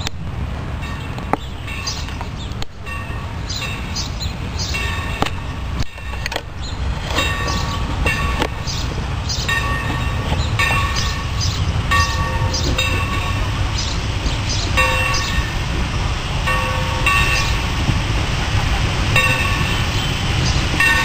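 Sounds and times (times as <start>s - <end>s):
steam locomotive rumbling: 0.0s - 21.0s.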